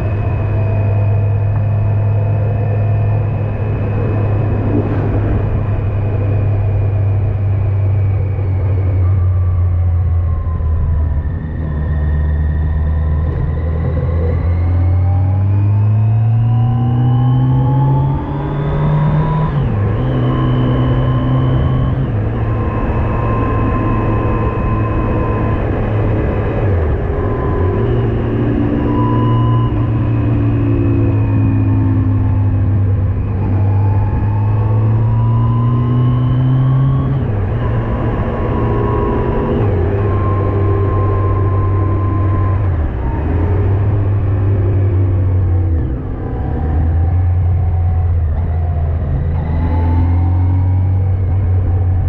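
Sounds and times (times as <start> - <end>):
motorcycle engine accelerating: 0.0 - 52.0
wind and road noise: 0.0 - 52.0.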